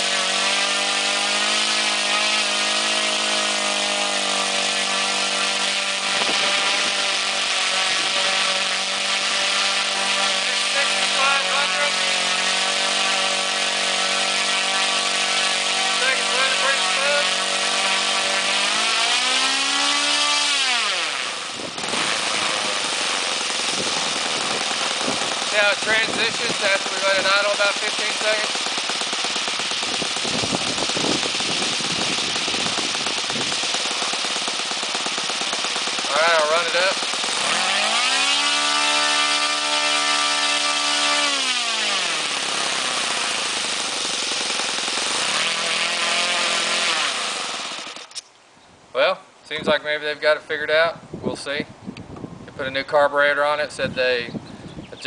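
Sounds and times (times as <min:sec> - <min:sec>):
model airplane engine running: 0:00.0 - 0:48.2.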